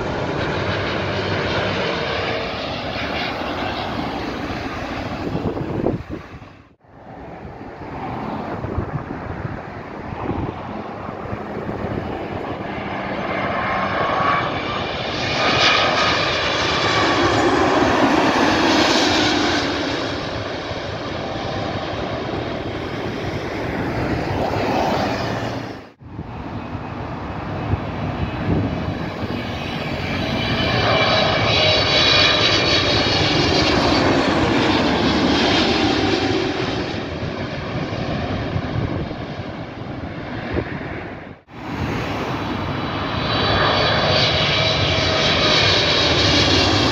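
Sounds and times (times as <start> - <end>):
jet airliner passing overhead: 0.0 - 46.9.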